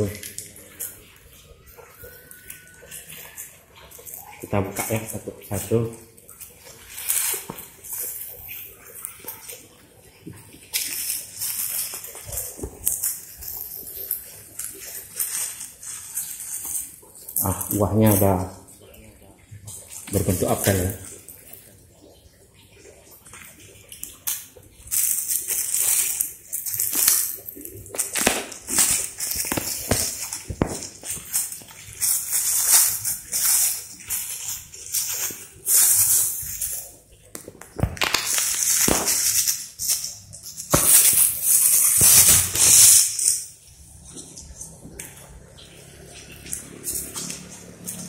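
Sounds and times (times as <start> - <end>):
plastic bag crinkling: 0.0 - 18.5, 24.0 - 48.0.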